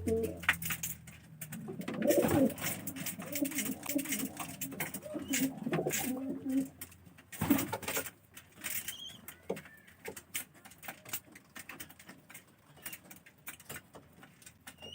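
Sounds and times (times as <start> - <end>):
pigeons scratching and pattering: 0.0 - 14.9.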